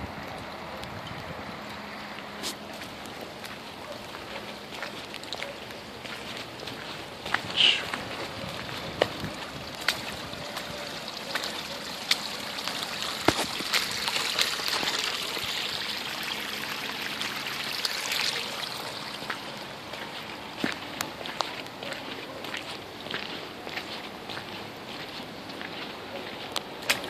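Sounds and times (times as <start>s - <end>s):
water running over gravel: 0.1s - 27.0s
footsteps crunching on wet gravel: 0.2s - 27.0s.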